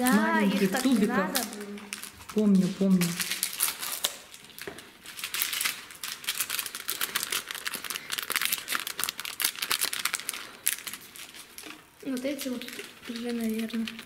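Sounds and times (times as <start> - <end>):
plastic packet crinkling: 0.0 - 14.0.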